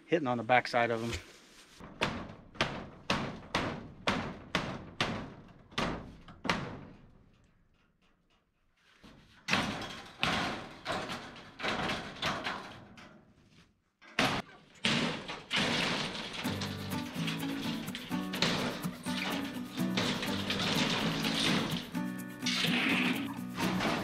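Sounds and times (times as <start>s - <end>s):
hammer banging on steel siding: 1.8s - 13.2s, 14.1s - 22.8s.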